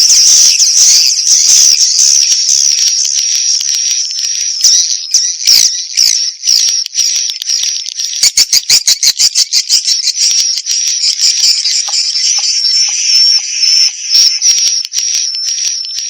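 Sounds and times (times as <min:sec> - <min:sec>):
swiftlets twittering chirps: 0:00.0 - 0:16.0
rapid sharp clicks: 0:00.5 - 0:16.0.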